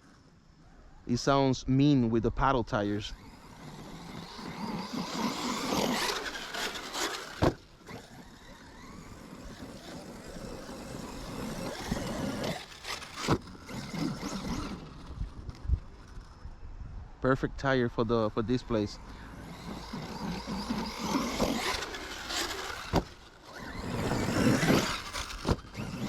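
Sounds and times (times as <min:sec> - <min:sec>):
rc car driving through sand: 0:00.0 - 0:26.0.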